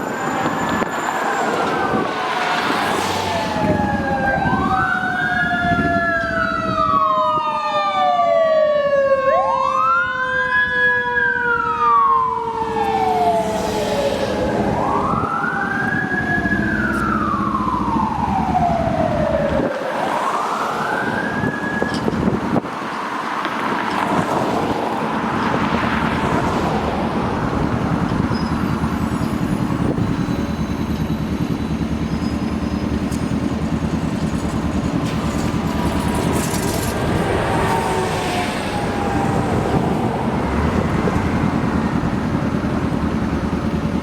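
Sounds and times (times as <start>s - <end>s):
emergency siren wailing: 0.0s - 44.0s
traffic rumble: 0.0s - 44.0s.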